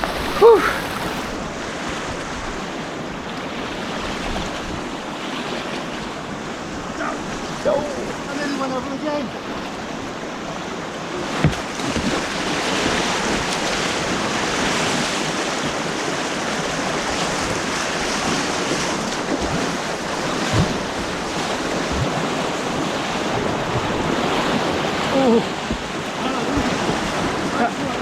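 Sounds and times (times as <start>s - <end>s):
rushing white water: 0.0s - 28.0s.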